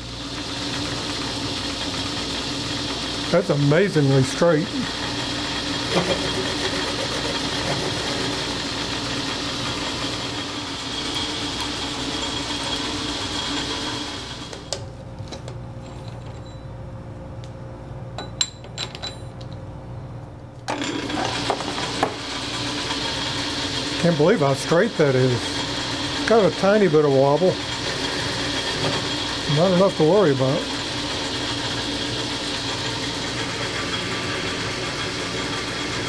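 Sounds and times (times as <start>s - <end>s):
metal lathe motor humming: 0.0s - 14.8s, 20.7s - 36.0s.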